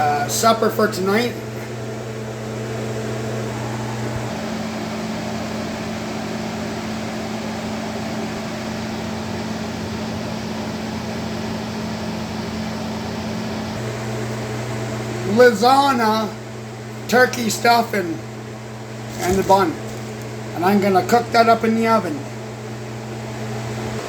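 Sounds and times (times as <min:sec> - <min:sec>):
appliance electrical hum: 0:00.0 - 0:24.0.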